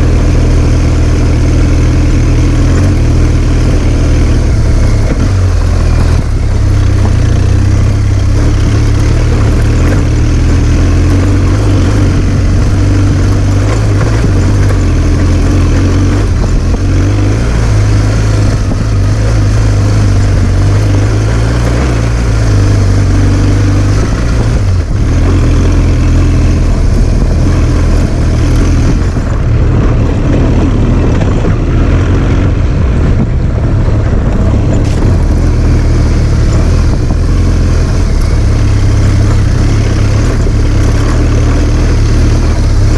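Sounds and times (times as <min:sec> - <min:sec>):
motorcycle engine droning: 0:00.0 - 0:42.9
wind and road noise hiss: 0:00.0 - 0:42.9.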